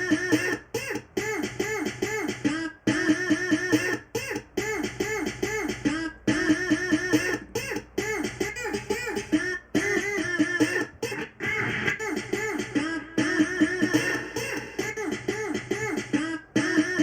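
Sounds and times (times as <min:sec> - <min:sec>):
electronic music loop: 0:00.0 - 0:17.0.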